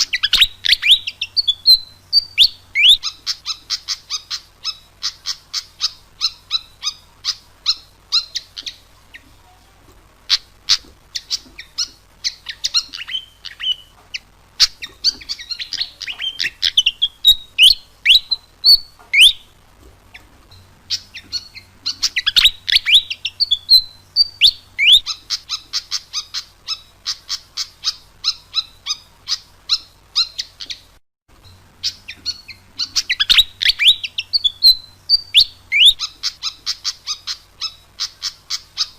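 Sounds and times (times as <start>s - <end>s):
bird chirping and whistling: 0.0s - 9.2s, 10.3s - 19.5s, 20.9s - 30.9s, 31.8s - 38.9s.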